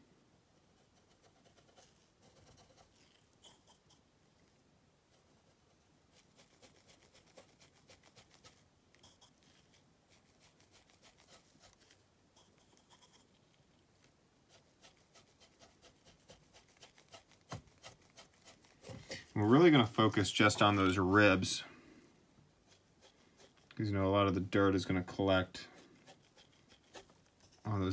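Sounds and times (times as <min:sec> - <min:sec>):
brush scratching on model: 0:00.5 - 0:13.5, 0:14.4 - 0:21.0, 0:22.5 - 0:27.9.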